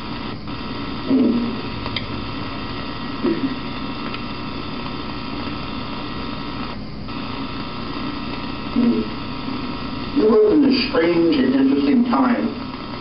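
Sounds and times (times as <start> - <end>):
mains hum and hiss: 0.0 - 13.0.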